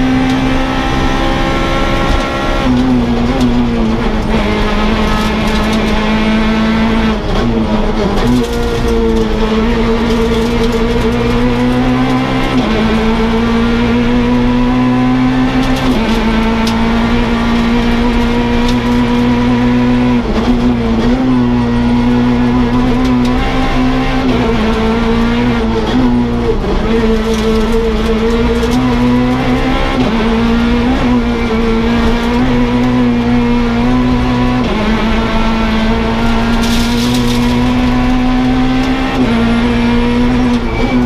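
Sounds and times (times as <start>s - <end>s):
car engine at high revs: 0.0s - 41.0s.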